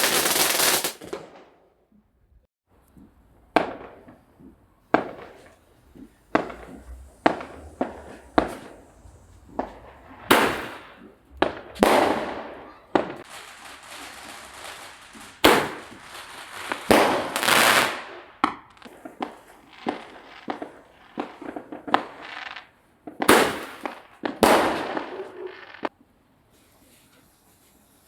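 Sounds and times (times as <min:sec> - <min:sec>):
fireworks hissing crackle: 0:00.0 - 0:01.2, 0:05.0 - 0:28.0
fireworks banging: 0:00.0 - 0:01.5, 0:03.4 - 0:25.9.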